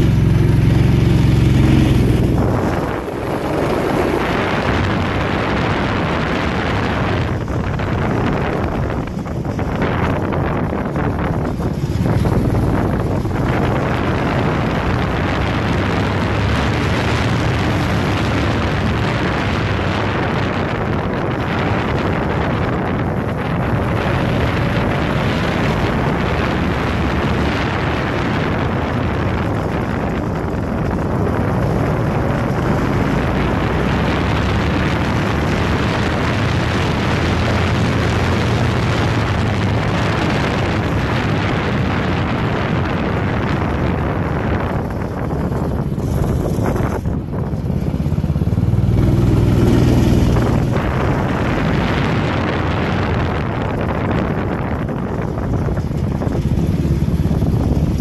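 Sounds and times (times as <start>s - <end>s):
go-kart engine running: 0.0s - 58.0s
wind buffeting microphone: 0.0s - 58.0s.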